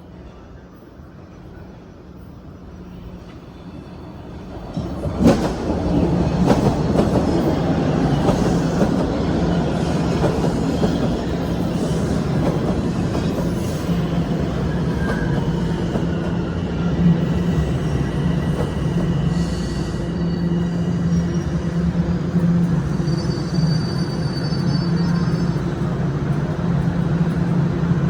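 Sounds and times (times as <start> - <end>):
subway train motors humming: 0.0 - 28.0.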